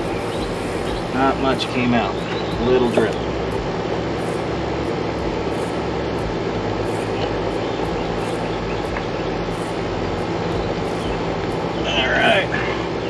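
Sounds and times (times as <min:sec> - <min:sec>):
faint insect chirps: 0:00.0 - 0:11.9
outdoor rumble and hiss: 0:00.0 - 0:13.0.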